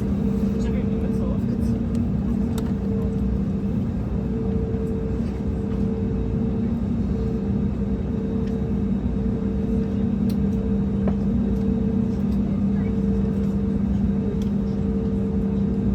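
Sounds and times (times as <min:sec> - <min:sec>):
constant hum: 0:00.0 - 0:15.9
low cabin rumble: 0:00.0 - 0:15.9.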